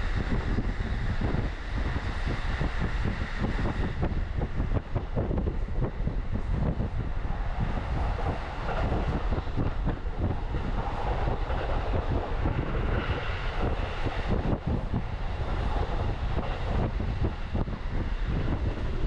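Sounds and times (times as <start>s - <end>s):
train low rumble: 0.0s - 19.0s
wheels clattering on rails: 0.0s - 19.0s.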